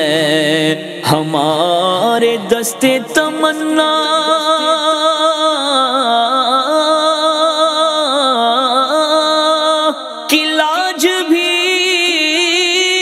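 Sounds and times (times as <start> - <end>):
solo voice singing devotional song: 0.0 - 13.0.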